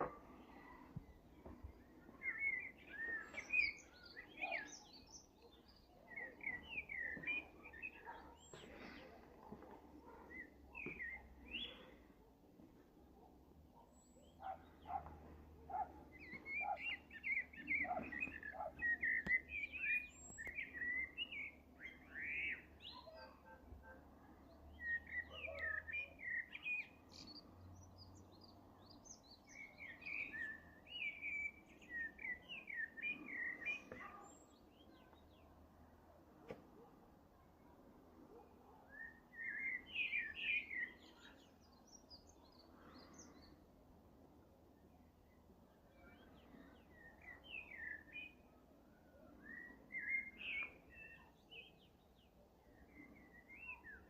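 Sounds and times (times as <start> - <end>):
faint outdoor background: 0.0 - 54.0
songbirds chirping and twittering: 0.0 - 54.0.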